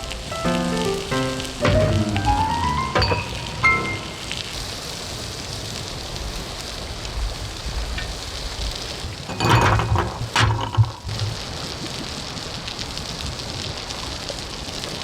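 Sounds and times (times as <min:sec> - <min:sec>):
food sizzling on a grill: 0:00.0 - 0:09.3, 0:10.8 - 0:15.0.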